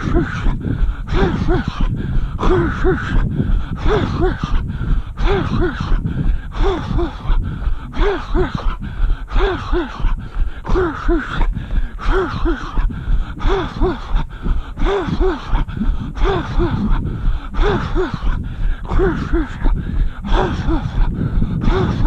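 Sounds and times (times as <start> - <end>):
runner's heavy breathing: 0.0 - 22.0
running footsteps: 0.0 - 22.0.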